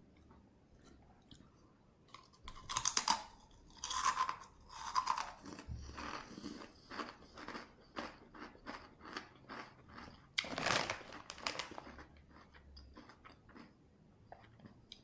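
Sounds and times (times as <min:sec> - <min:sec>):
person chewing: 0:00.2 - 0:10.4, 0:11.6 - 0:15.0.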